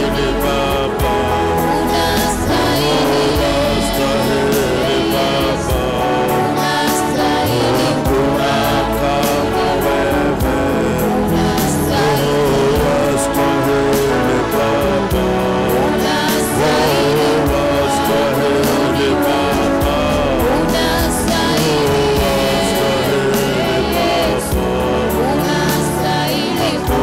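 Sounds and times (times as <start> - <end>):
gospel worship music: 0.0 - 27.0.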